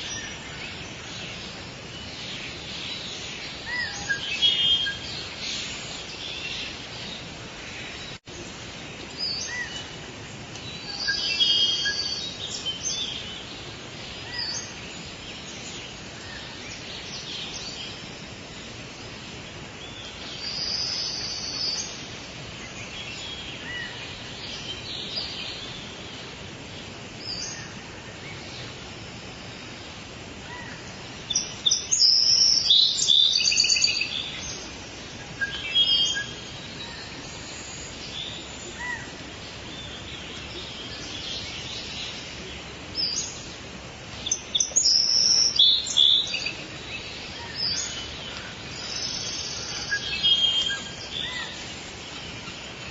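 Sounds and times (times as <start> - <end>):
birds chirping and calling: 0.0 - 28.9, 29.6 - 52.9
steady background hiss: 0.0 - 52.9.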